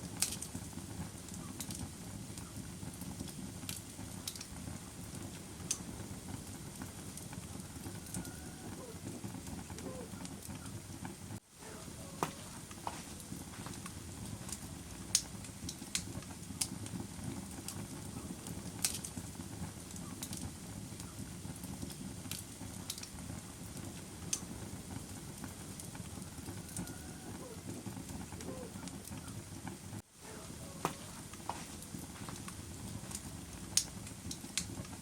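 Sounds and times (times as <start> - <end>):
sharp pops of fire: 0.0 - 35.0
wood fire crackling: 0.0 - 35.0.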